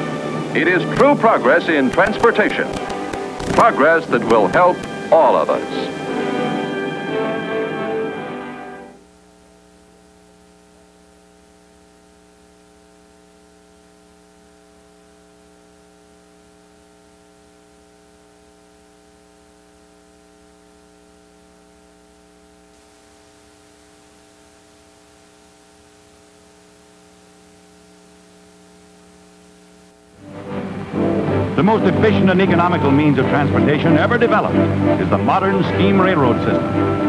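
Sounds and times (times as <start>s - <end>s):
electrical hum: 0.0s - 37.0s
faint tape hiss: 0.0s - 37.0s.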